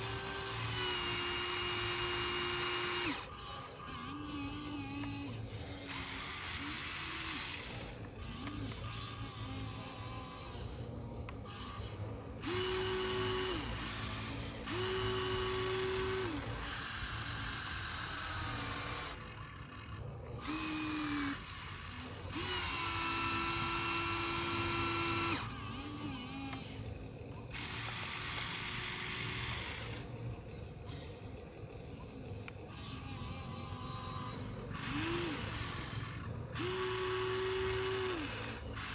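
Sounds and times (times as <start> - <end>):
toy excavator electric motors whining: 0.0 - 38.9.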